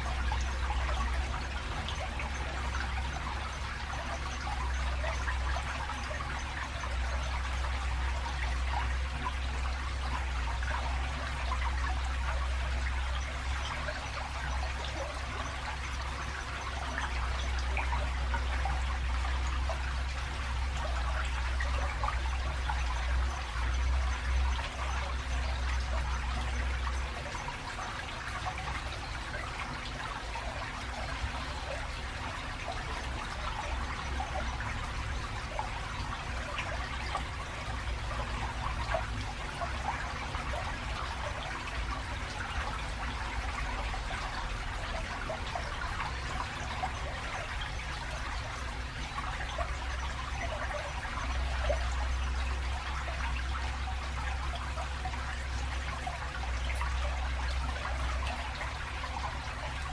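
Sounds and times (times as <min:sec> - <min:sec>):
low rumble of traffic: 0:00.0 - 0:59.9
stream trickling over stones: 0:00.0 - 0:59.9.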